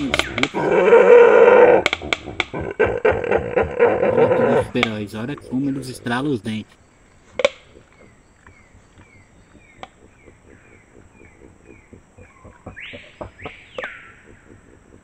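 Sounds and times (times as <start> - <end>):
bird chirping: 0.0 - 0.8, 3.4 - 15.0
peccaries clacking teeth: 0.0 - 6.6, 7.2 - 15.0.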